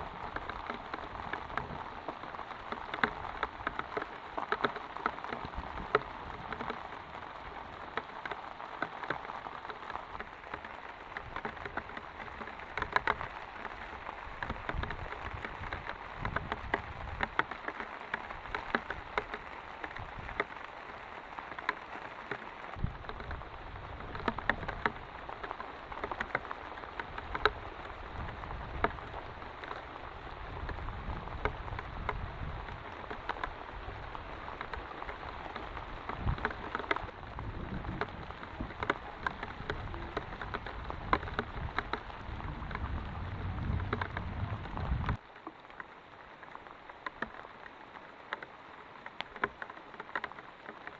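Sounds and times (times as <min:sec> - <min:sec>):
raindrops ticking sharply: 0:00.0 - 0:50.9
steady rain: 0:00.0 - 0:50.9.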